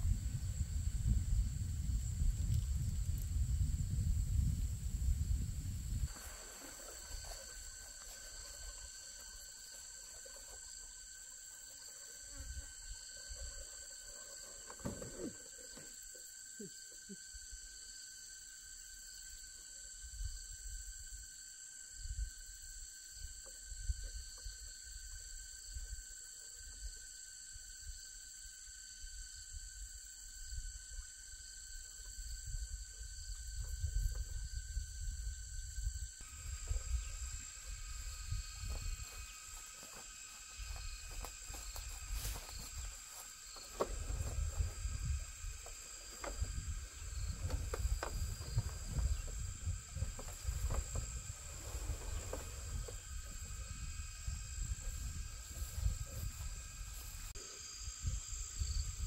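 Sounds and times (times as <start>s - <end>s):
insect chorus chirring: 0.0s - 59.0s.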